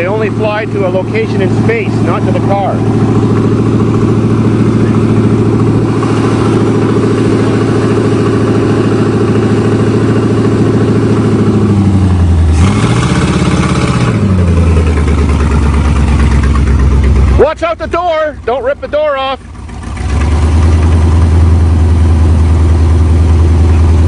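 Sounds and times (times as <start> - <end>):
car engine idling loudly: 0.0 - 24.0.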